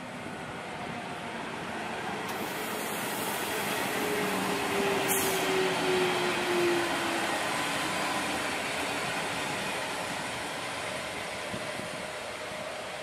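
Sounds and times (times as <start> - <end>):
faint train whine: 0.0 - 13.0.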